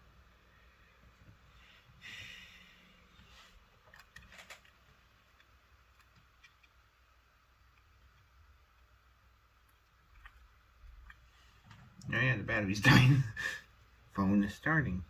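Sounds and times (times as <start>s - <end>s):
soft hiss: 0.0s - 15.0s.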